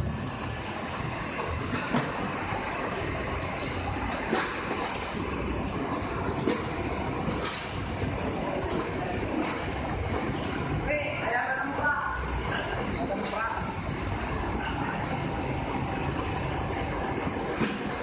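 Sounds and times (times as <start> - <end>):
machine rumble and hiss: 0.0 - 18.0.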